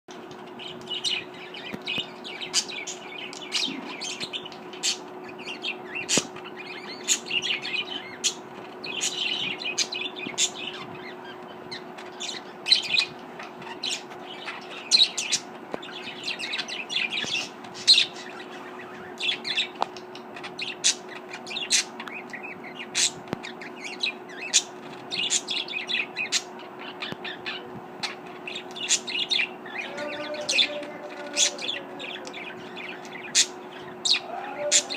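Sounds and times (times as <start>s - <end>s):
steady low hum: 0.1s - 34.9s
budgerigars chirping: 0.6s - 34.9s.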